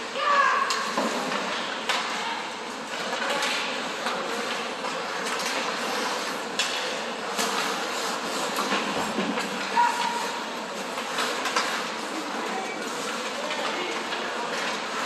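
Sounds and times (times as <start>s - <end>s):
hockey sticks and puck clacking: 0.0s - 15.0s
skates scraping ice: 0.1s - 15.0s.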